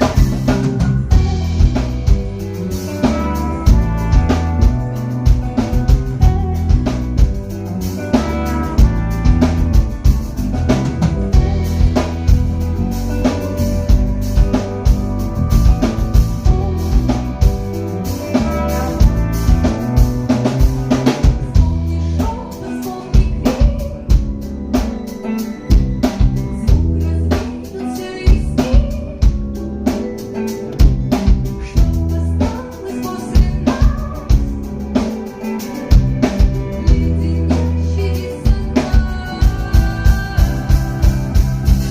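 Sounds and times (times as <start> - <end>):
drum kit beat: 0.0 - 41.9.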